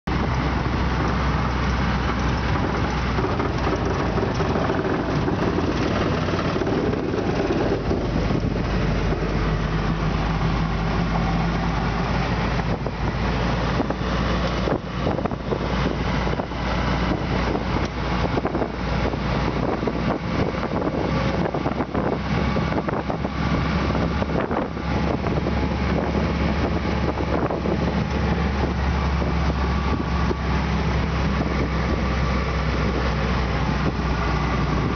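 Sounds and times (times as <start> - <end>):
jeep engine running: 0.0 - 34.9
vehicle rattles and knocks: 0.1 - 34.9.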